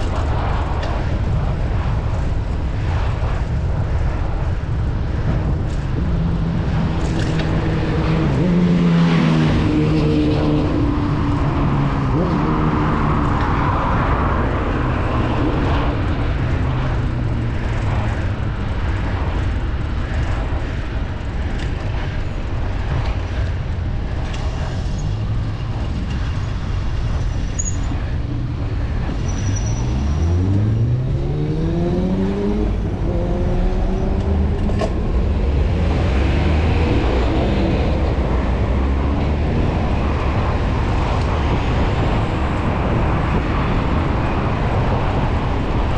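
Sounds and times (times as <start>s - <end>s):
vehicle engine speeding up: 0.0s - 20.6s, 28.8s - 45.9s
road traffic: 0.0s - 45.9s
wind rush on microphone: 0.0s - 45.9s.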